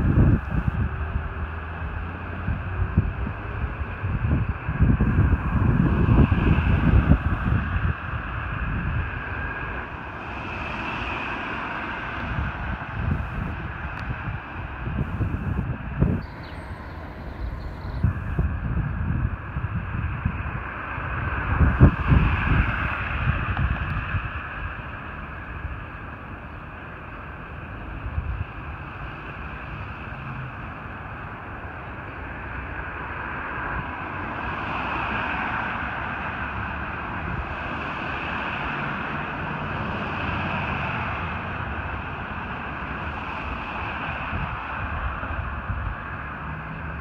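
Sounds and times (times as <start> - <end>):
fire engine rumble: 0.0 - 47.0.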